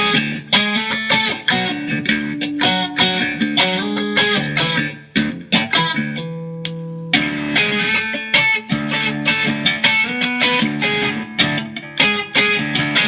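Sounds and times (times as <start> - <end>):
electric guitar picking and chords: 0.0 - 13.0.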